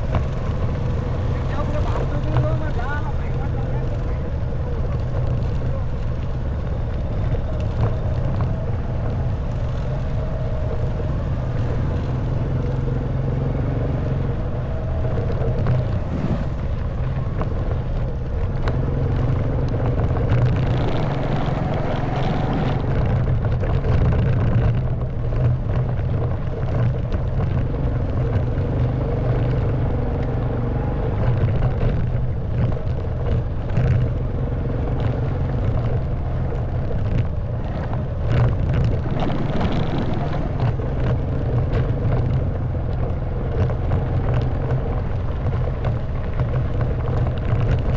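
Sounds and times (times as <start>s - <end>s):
bike rattling on rough track: 0.0s - 47.9s
motorbike engine running: 0.0s - 47.9s.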